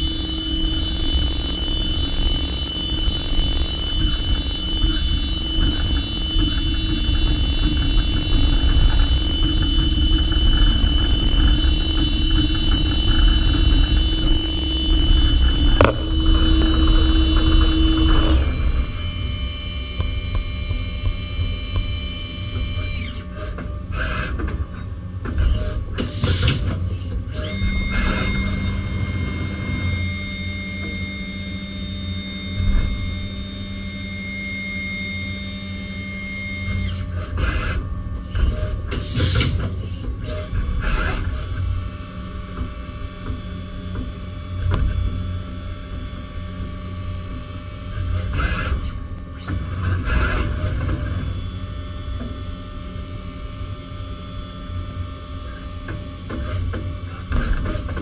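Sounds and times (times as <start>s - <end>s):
spindle whine: 0.0s - 26.0s, 26.6s - 58.0s.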